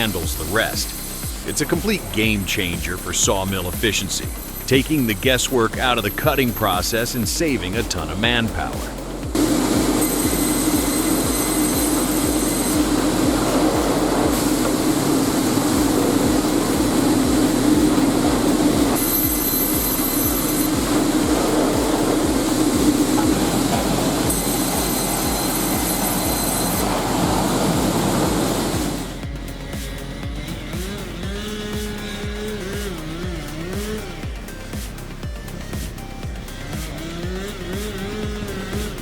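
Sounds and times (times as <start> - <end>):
high-pitched whine: 0.0 - 39.0
sawmill machinery drone: 0.0 - 39.0.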